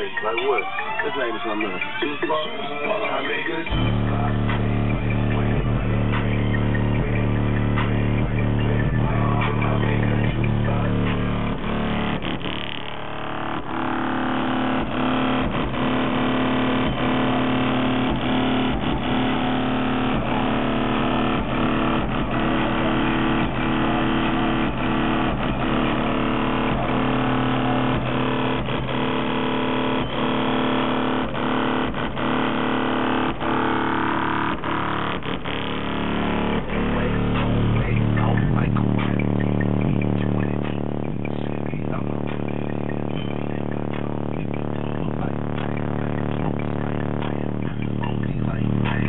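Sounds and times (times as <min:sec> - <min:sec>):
loud music through car subwoofers: 0:00.0 - 0:49.0.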